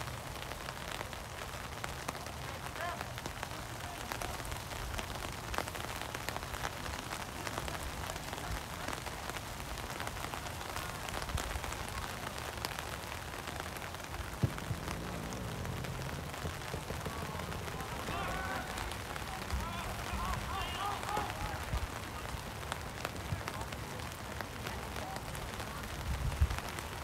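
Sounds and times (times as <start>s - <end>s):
rain drops ticking: 0.0s - 27.0s.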